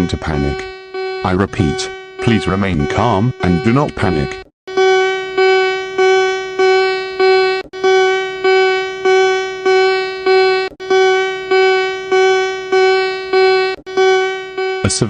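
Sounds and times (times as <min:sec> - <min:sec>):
buzzy pulsing alert tone: 0:00.0 - 0:15.0.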